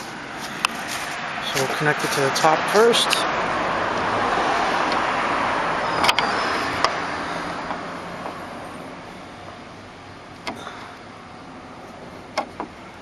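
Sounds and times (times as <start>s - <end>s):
road vehicle passing: 0.0s - 13.0s.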